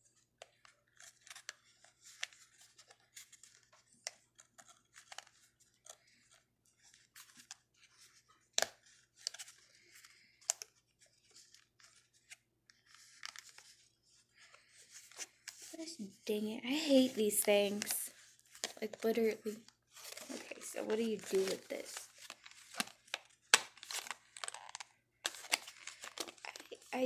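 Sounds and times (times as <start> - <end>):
packaging crinkling and scraping: 0.1 - 15.9, 16.8 - 27.0.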